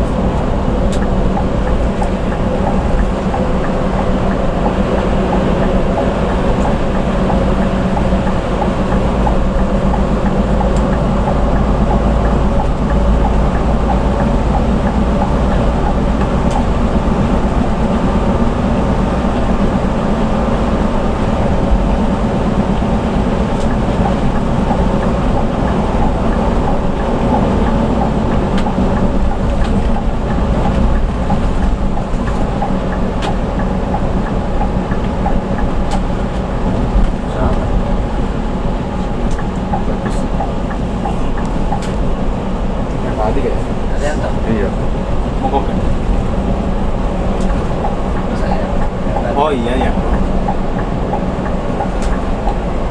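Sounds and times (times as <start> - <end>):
bus engine drone: 0.0 - 52.9
deep road rumble: 0.0 - 52.9.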